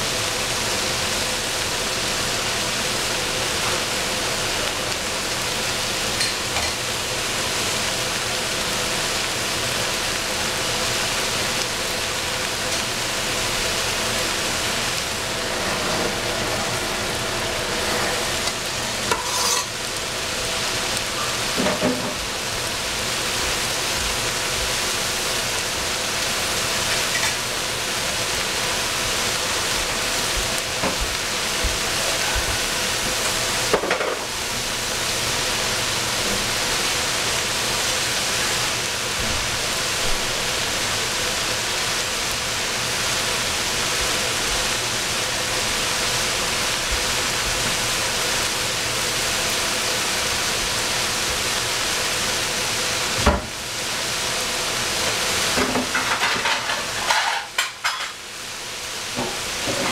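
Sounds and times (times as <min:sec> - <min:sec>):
vegetables sizzling in frying pan: 0:00.0 - 0:59.9.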